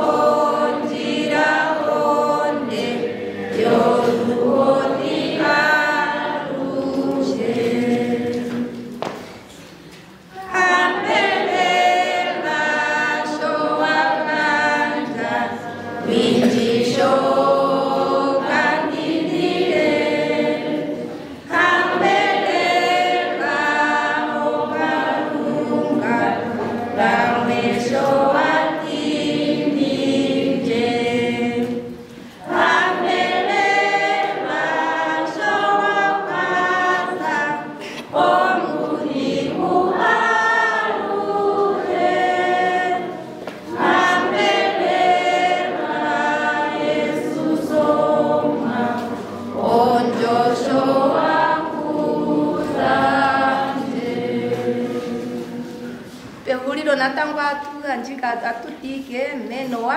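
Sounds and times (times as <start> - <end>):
choir singing a cappella: 0.0 - 56.4.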